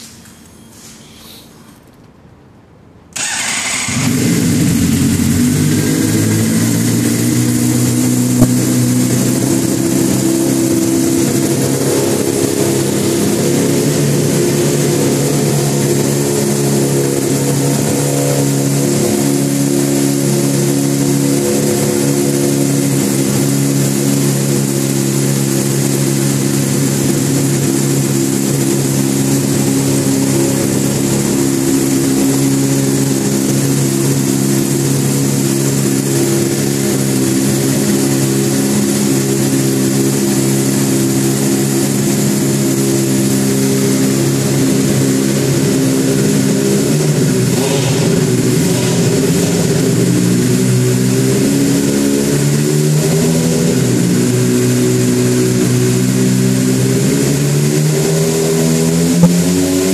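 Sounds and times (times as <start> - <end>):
motorcycle engine starting and idling: 3.1 - 59.9.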